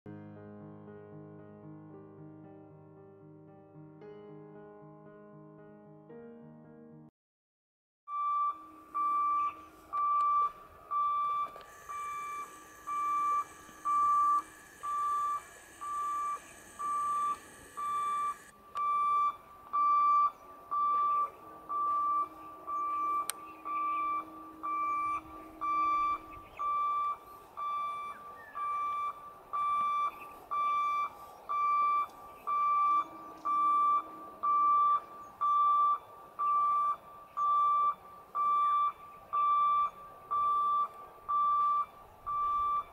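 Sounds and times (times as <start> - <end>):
level crossing alarm beeping: 8.1 - 42.9.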